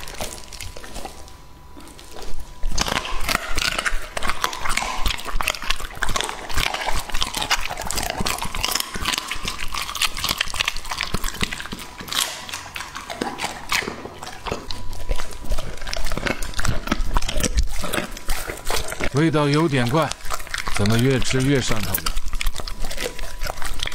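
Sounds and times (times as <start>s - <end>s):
dog chewing with wet crunches: 0.0s - 23.9s.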